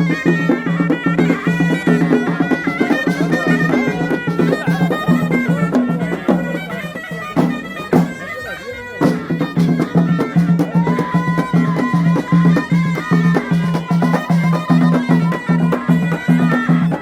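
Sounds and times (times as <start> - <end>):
reed wind instrument melody: 0.0 - 17.0
regular drumbeat: 0.0 - 17.0.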